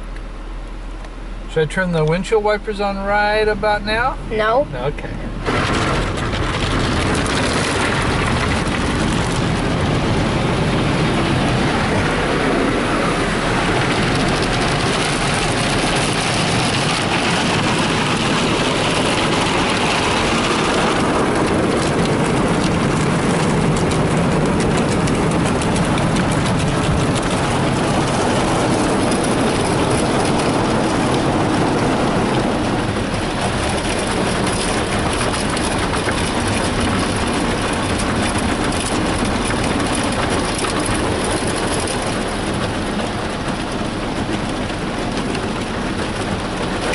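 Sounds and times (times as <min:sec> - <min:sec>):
car wash water spray: 0:00.0 - 0:46.9
wash machinery on car body: 0:00.0 - 0:46.9.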